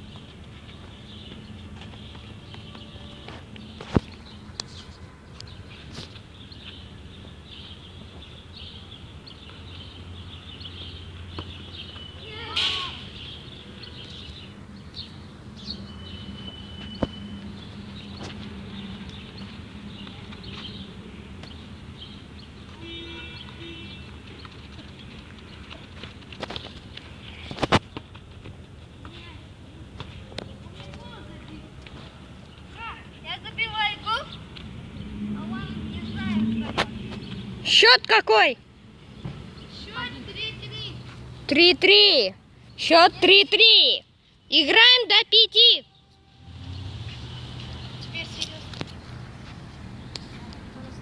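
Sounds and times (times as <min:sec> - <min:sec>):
outdoor background noise: 0:00.0 - 0:51.0.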